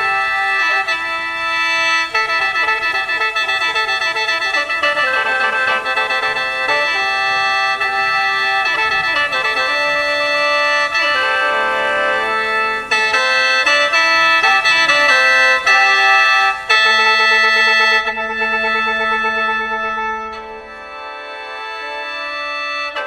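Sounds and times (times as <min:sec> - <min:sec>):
organ-like held notes: 0:00.0 - 0:23.0.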